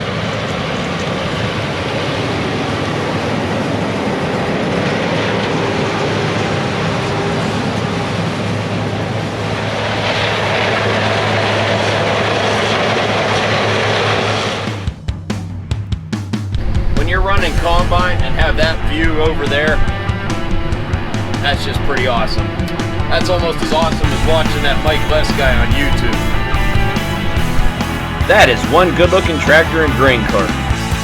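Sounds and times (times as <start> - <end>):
diesel machinery engine running: 0.0 - 15.0, 16.6 - 31.0.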